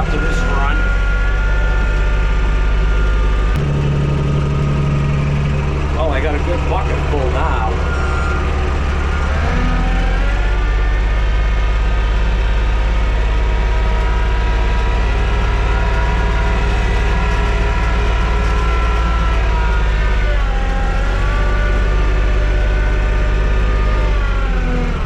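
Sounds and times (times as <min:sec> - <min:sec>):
steady higher whine: 0:00.0 - 0:25.0
tractor diesel engine running: 0:00.0 - 0:25.0.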